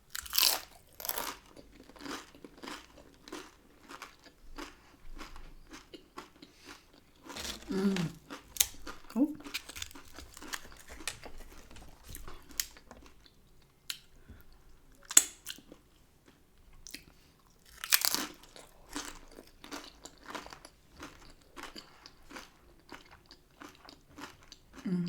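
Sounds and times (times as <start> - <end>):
crunching tortilla chips: 0.1 - 13.3, 17.6 - 24.6.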